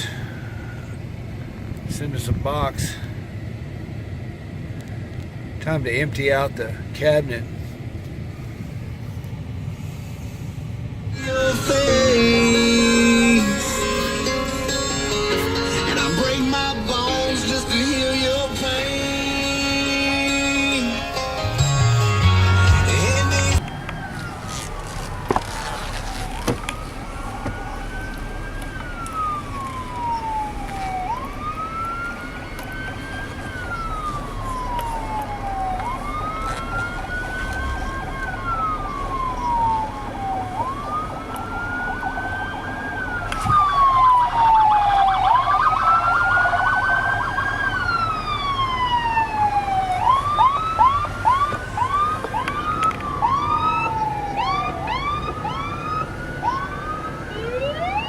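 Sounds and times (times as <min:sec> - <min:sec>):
emergency vehicle siren wailing: 0:00.0 - 0:01.8, 0:10.8 - 0:58.0.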